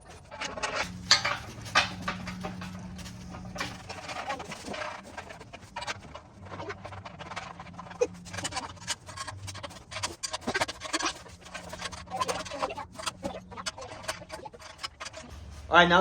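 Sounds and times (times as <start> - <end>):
metal frame clicks and knocks: 0.4 - 16.0
bolts threaded by hand: 0.6 - 16.0.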